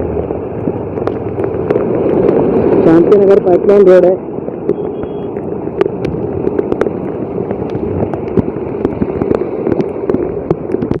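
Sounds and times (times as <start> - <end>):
hum of vehicles: 0.0 - 11.0.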